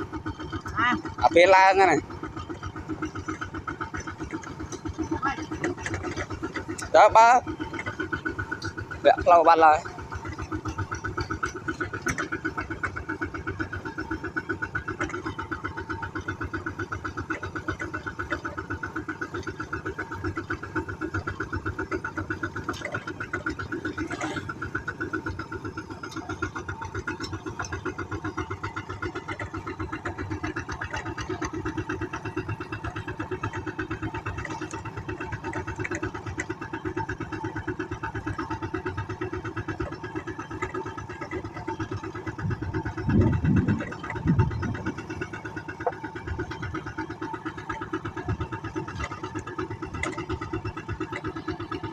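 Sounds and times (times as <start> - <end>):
tractor engine chugging: 0.0 - 51.9.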